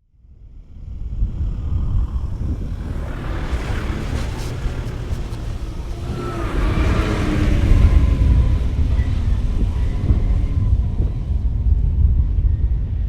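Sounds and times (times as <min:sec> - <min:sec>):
faint engine tones: 0:00.6 - 0:13.0
vehicle engine rumbling: 0:01.2 - 0:13.0.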